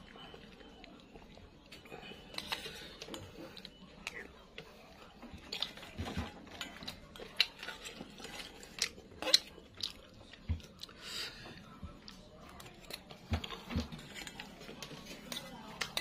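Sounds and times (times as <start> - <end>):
chewing: 0.0 - 16.0.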